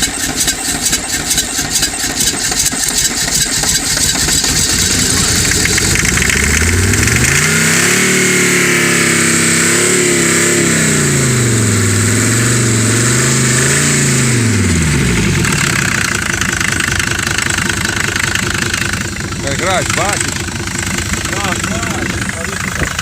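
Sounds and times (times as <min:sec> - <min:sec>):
diesel engine revving and idling: 0:00.0 - 0:23.0.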